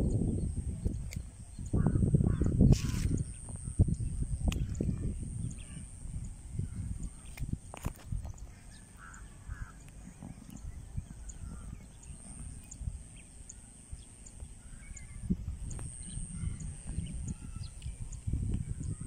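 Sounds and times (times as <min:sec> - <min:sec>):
faint bird chirps: 0:00.0 - 0:19.0
faint high-pitched whine: 0:00.0 - 0:19.0
wind on microphone: 0:00.0 - 0:19.0.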